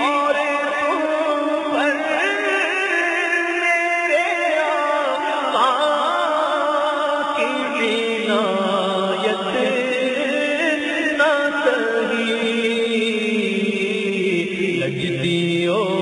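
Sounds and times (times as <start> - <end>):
person chanting: 0.0 - 16.0.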